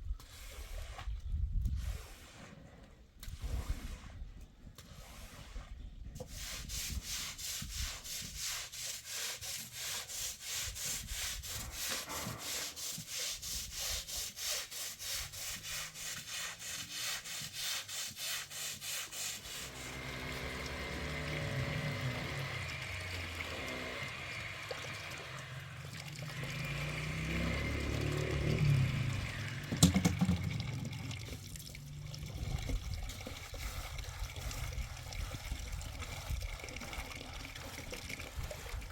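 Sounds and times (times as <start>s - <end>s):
hand saw rasping strokes: 0.1s - 30.2s, 33.2s - 37.0s.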